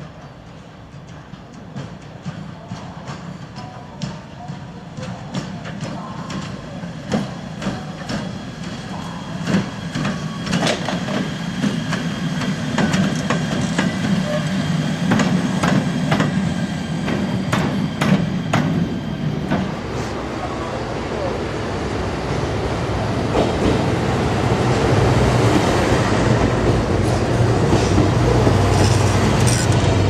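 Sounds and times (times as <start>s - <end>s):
locomotive moving slowly: 0.0s - 21.7s, 25.0s - 30.0s.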